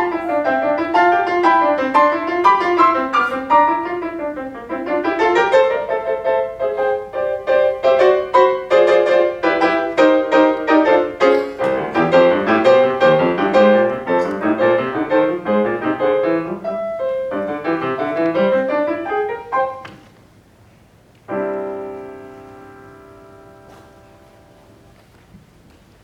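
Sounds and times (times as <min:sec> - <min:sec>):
piano chord ringing: 0:00.0 - 0:19.9, 0:21.3 - 0:24.9
solo piano playing: 0:00.0 - 0:20.0, 0:21.2 - 0:25.0.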